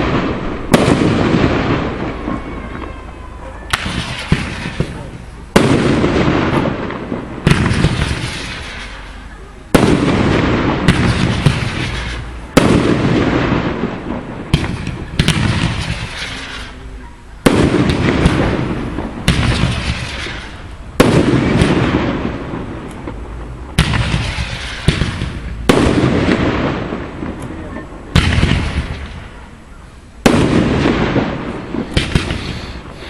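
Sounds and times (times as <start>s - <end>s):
dense firework crackle: 0.0s - 33.0s
firework shells bursting: 3.7s - 9.2s, 9.8s - 29.4s, 30.2s - 33.0s.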